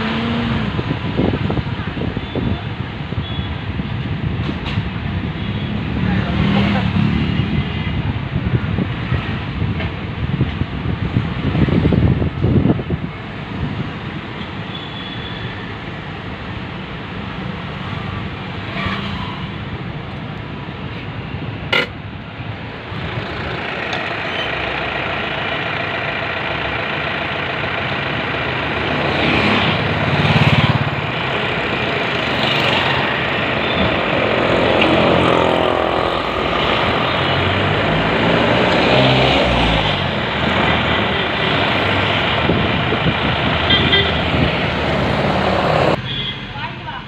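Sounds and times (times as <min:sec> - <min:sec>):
heavy vehicle engines: 0:00.0 - 0:47.0
vehicles passing: 0:00.0 - 0:47.0.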